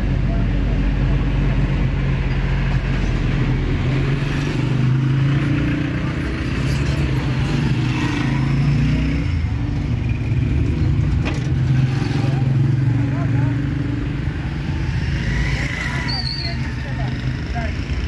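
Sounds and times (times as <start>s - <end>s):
motor traffic hum: 0.0s - 18.0s
vehicle engines running: 0.0s - 18.0s.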